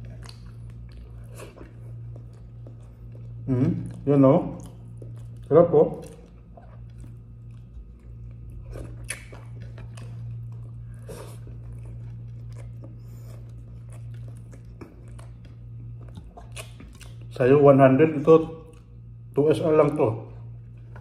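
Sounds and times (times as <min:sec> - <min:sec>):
person chewing crunchy food: 0:00.0 - 0:17.6
steady low hum: 0:00.0 - 0:21.0.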